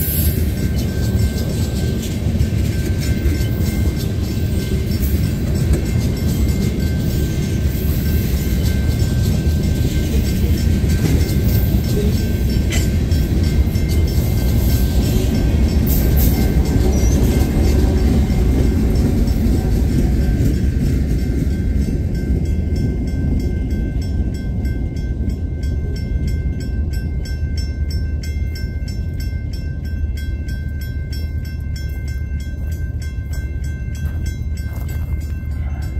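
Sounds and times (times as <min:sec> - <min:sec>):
crossing bell dinging: 0:00.0 - 0:35.9
train wheels rumbling on rails: 0:00.0 - 0:35.9.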